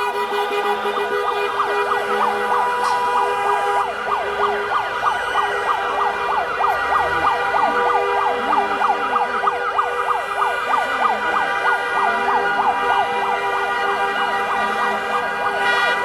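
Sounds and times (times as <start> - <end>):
car horns blaring: 0.0 - 9.1, 11.4 - 16.0
siren yelping: 0.4 - 16.0.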